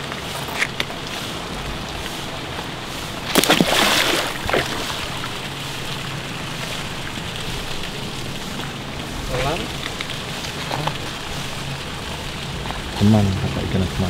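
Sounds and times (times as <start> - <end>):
snake splashing into water: 0.3 - 12.4.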